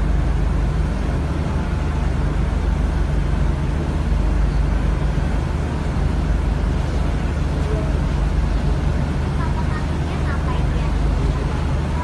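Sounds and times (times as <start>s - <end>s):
constant rushing noise: 0.0s - 12.0s
ship engine droning: 0.0s - 12.0s.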